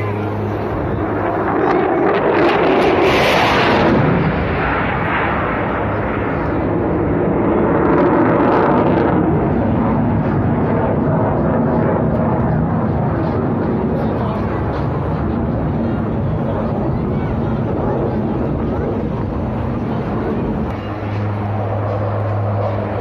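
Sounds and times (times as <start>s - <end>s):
jet flying overhead: 0.0s - 23.0s.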